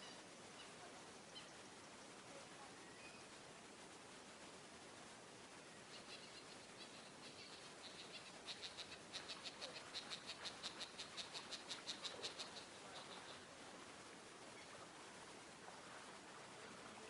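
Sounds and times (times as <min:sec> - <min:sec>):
outdoor ambience hiss: 0:00.0 - 0:17.0.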